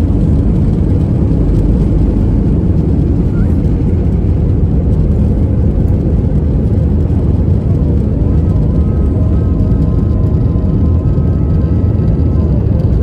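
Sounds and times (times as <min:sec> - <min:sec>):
airliner engines rumbling in cabin: 0:00.0 - 0:13.0.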